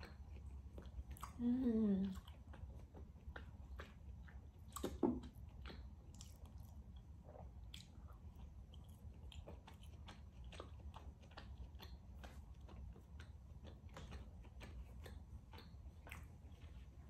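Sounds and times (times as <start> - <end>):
low steady hum: 0.0 - 17.0
wet mouth clicks chewing: 0.0 - 17.0.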